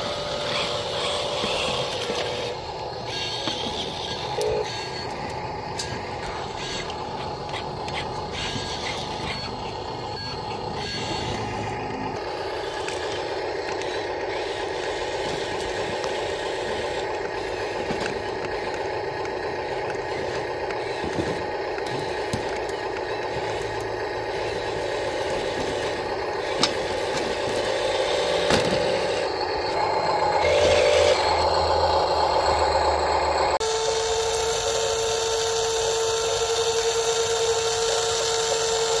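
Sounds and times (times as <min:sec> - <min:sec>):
model truck motor running: 0:00.0 - 0:39.0.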